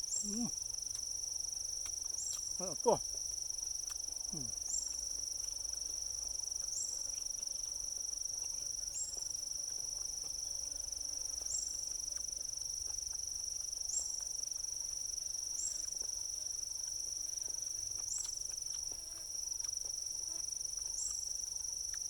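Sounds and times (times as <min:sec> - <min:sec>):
insect chorus: 0:00.0 - 0:22.0
faint ticks: 0:03.8 - 0:22.0.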